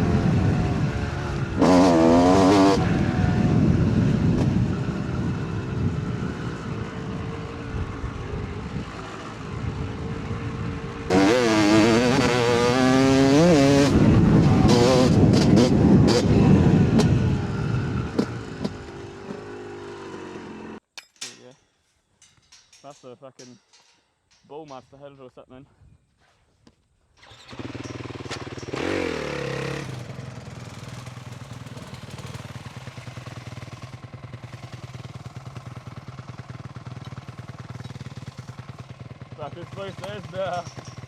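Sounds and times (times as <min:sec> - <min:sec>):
dirt bike engine revving: 0:00.0 - 0:20.8, 0:27.2 - 0:41.0.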